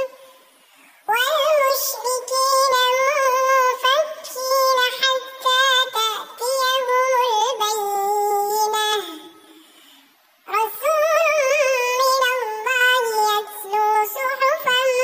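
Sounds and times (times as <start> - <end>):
child reciting melodically: 0.0 - 9.6, 10.4 - 15.0.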